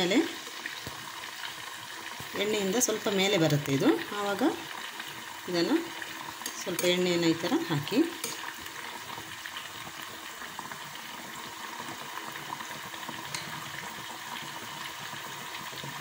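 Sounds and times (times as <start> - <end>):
oil bubbling and crackling: 0.0 - 16.0.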